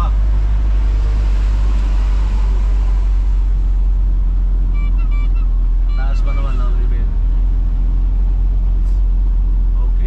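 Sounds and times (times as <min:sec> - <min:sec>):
tyres on wet road: 0:00.0 - 0:10.0
van engine and road rumble: 0:00.0 - 0:10.0.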